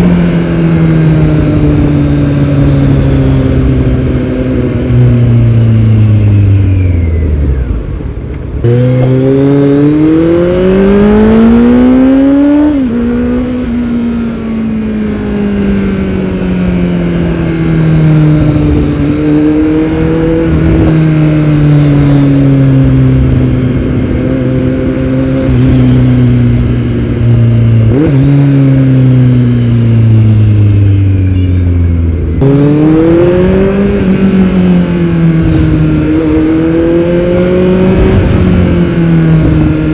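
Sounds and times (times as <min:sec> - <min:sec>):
motorcycle engine revving: 0:00.0 - 0:08.0, 0:08.6 - 0:39.9.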